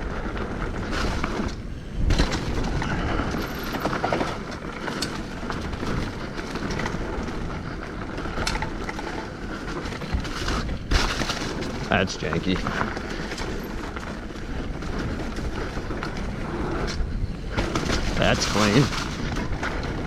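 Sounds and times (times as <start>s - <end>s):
bike clattering over bumps: 0.0s - 20.0s
bike tyres rolling on dirt: 0.0s - 20.0s.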